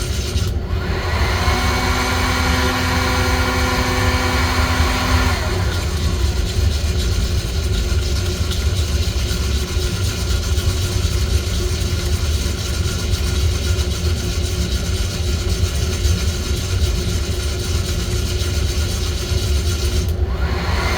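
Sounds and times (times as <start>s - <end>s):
coffee roaster rumbling: 0.0s - 20.9s.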